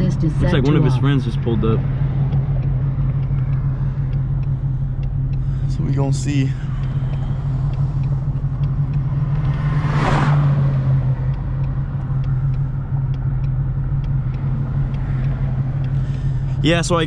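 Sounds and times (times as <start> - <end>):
low exhaust drone inside car: 0.0 - 17.0.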